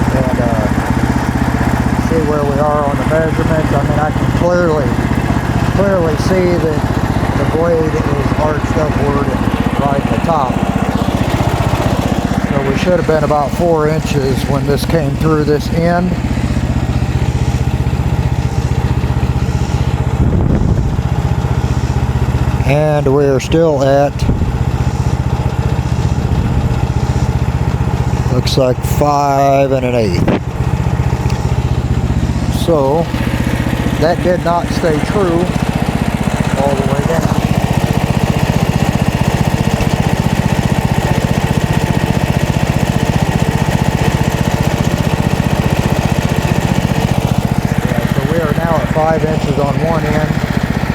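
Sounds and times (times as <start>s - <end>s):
sawmill engine running: 0.0s - 50.9s.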